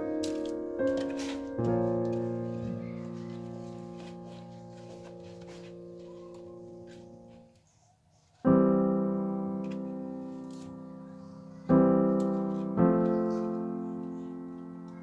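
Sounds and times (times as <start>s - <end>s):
piano music: 0.0s - 7.6s, 8.4s - 15.0s.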